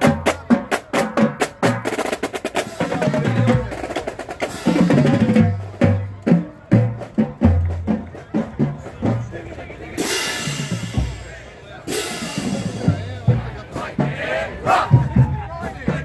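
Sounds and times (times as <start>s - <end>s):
snare and tenor drums: 0.0s - 16.0s.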